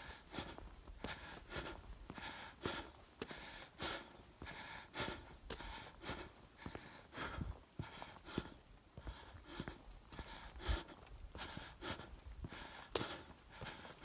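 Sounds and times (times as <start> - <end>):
footsteps on sandstone: 0.0 - 14.0
person panting: 0.0 - 14.0.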